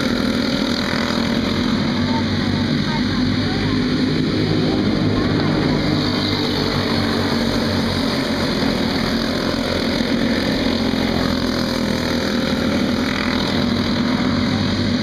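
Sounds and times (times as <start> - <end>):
go-kart engines buzzing: 0.0 - 15.0.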